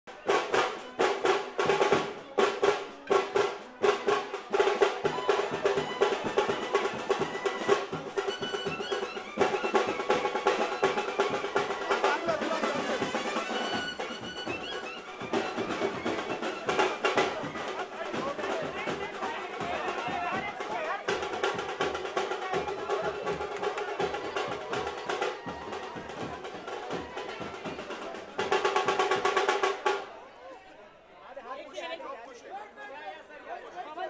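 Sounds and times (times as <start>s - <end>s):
fast drumming: 0.1s - 30.1s.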